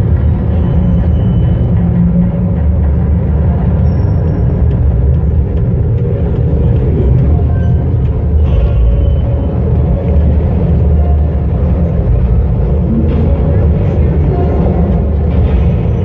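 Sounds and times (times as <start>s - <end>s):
loud low rumble: 0.0s - 16.0s.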